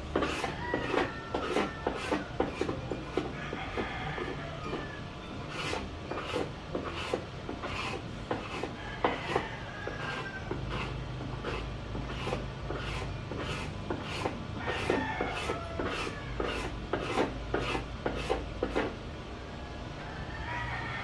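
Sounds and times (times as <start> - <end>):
hand tool rasping wood: 0.0 - 19.0
steady low hum: 0.0 - 21.0.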